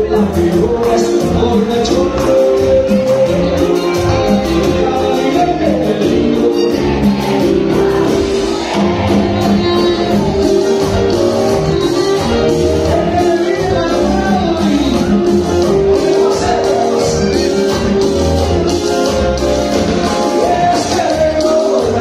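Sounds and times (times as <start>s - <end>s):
man singing: 0.0s - 11.2s, 11.8s - 22.0s
live latin band music: 0.0s - 22.0s.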